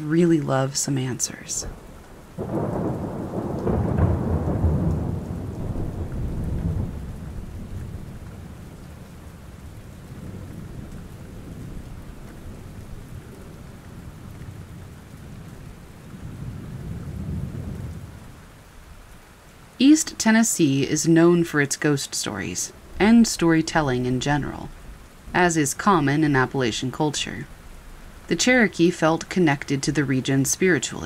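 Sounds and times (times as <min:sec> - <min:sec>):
steady falling rain: 0:00.0 - 0:31.0
thunder rumbling: 0:01.3 - 0:19.1, 0:22.2 - 0:30.8.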